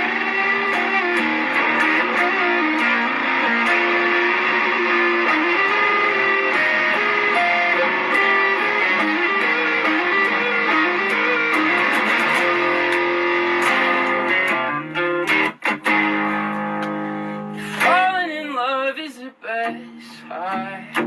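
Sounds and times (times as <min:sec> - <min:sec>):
electric guitar playing chords and melody: 0:00.0 - 0:18.7, 0:19.5 - 0:21.0.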